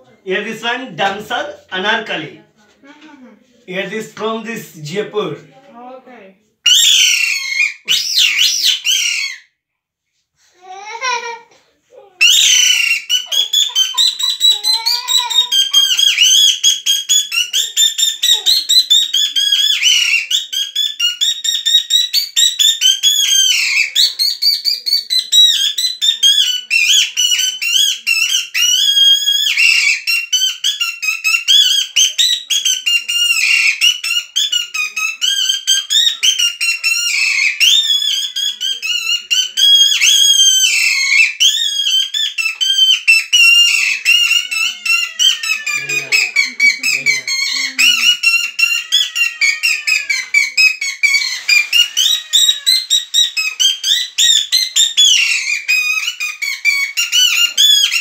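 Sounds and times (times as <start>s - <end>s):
shrill squeaky reed whistle: 6.7s - 9.5s, 12.2s - 58.0s.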